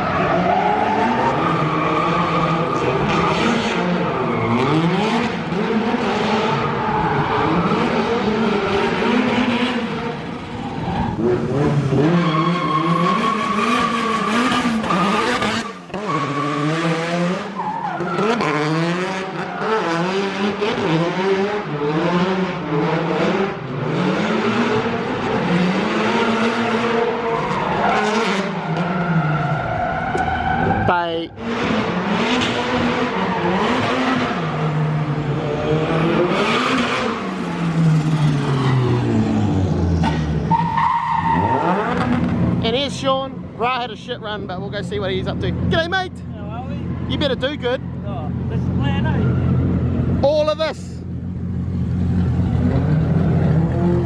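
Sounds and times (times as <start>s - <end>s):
car engines revving: 0.0s - 54.0s
tyres skidding and squealing: 0.0s - 54.0s.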